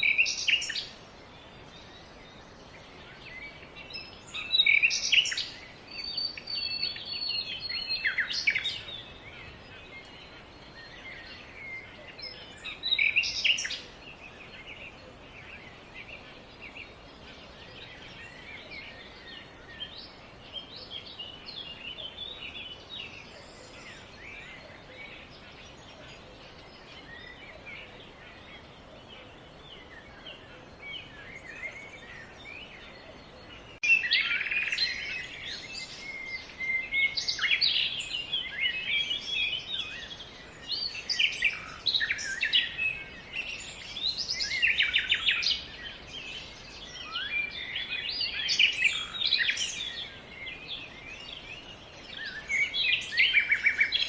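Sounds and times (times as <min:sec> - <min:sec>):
small birds singing and chirping: 0:00.0 - 0:54.0.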